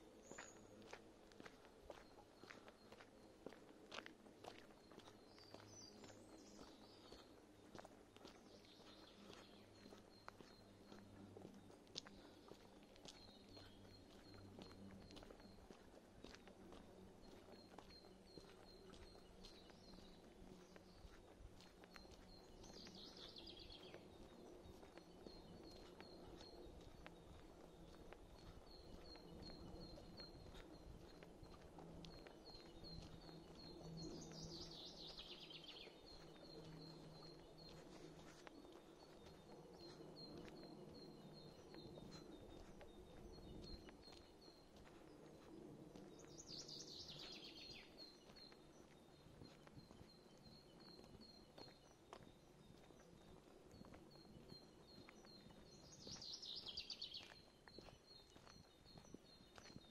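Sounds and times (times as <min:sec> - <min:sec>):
faint footsteps on a path: 0:00.0 - 0:59.9.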